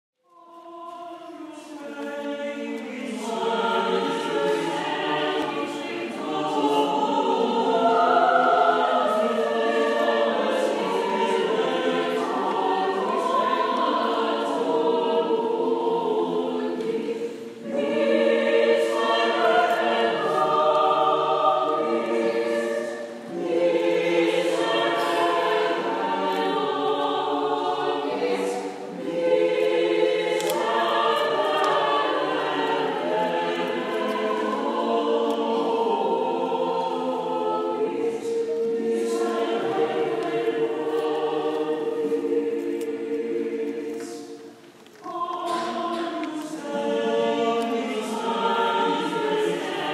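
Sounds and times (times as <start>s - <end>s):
choir singing: 0.2s - 49.9s.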